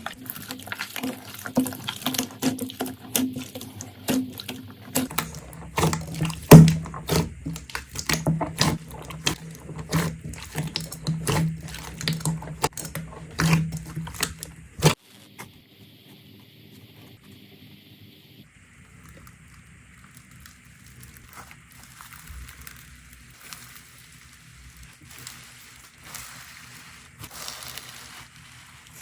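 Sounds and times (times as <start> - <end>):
slime squelching and popping: 0.0 - 15.5, 18.8 - 29.0.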